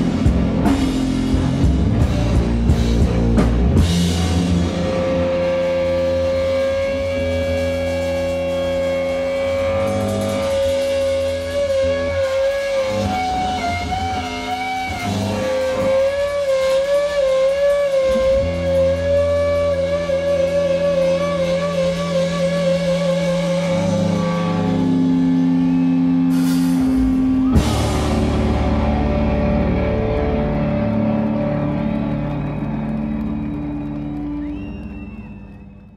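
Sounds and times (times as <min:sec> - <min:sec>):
low bass drone: 0:00.0 - 0:12.2, 0:18.0 - 0:35.9
electric guitar long wavering notes: 0:00.0 - 0:35.9.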